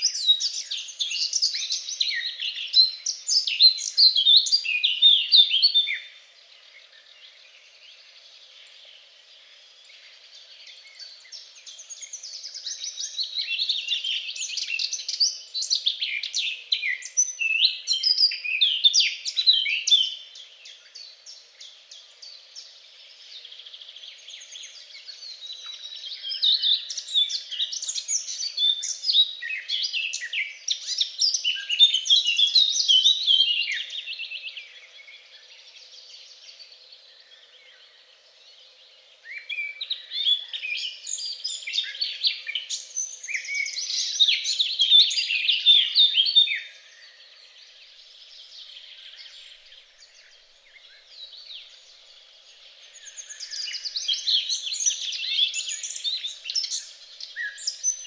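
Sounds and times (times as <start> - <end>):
songbirds twittering: 0.0 - 58.0.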